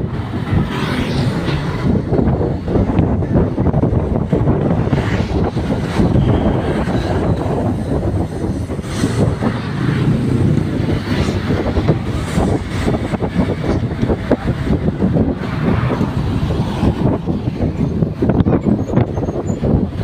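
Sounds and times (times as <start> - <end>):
motorcycle engine and road noise: 0.0 - 20.0
wind buffeting microphone: 0.0 - 20.0.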